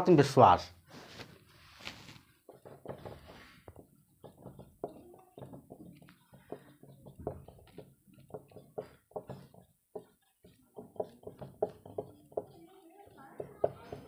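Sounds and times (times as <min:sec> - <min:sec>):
marker writing on whiteboard: 0:02.0 - 0:14.0.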